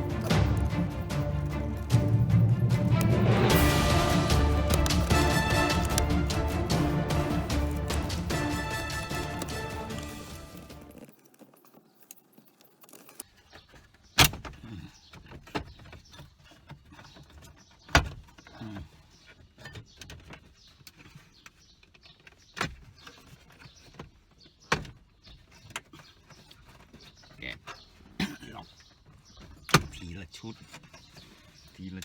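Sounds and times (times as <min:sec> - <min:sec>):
car parts clicking and knocking: 0:00.0 - 0:32.0.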